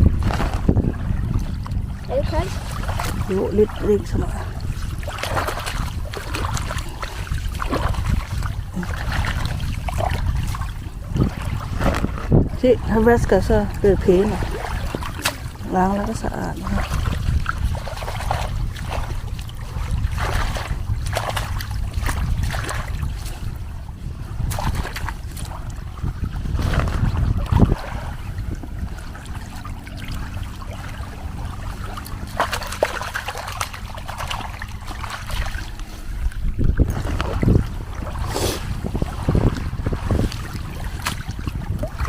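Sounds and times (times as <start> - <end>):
water trickling and splashing: 0.0 - 42.0
wind rumble on microphone: 0.0 - 42.0.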